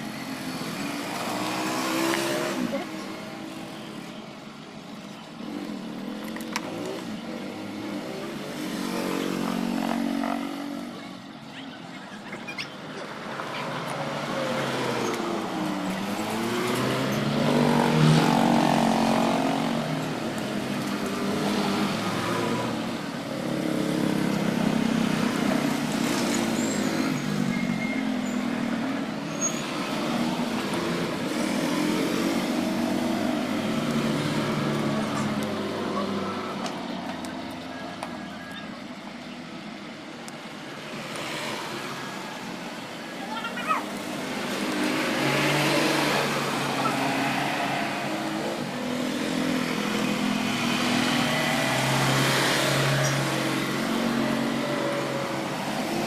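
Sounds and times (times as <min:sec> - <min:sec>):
vehicle engines passing: 0:00.0 - 0:56.0.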